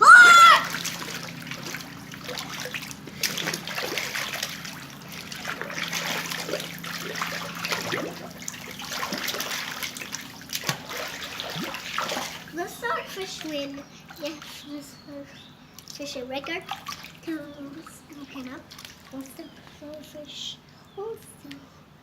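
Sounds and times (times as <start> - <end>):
small water splashes: 0.0 - 14.8, 15.7 - 19.8
water trickling: 0.0 - 14.9, 15.7 - 20.0.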